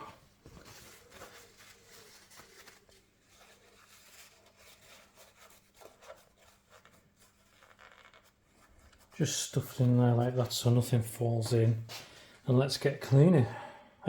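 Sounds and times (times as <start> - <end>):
kitchen roll rustling: 0.0 - 12.3.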